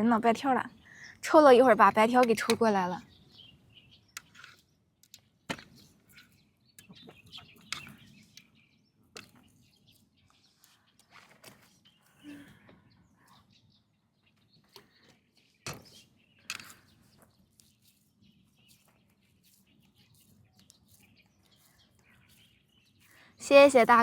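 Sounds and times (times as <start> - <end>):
faint bird chirps: 3.0 - 24.0.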